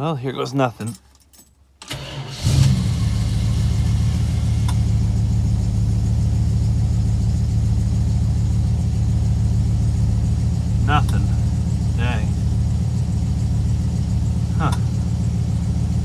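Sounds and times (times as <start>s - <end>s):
car engine idling: 1.8s - 16.0s.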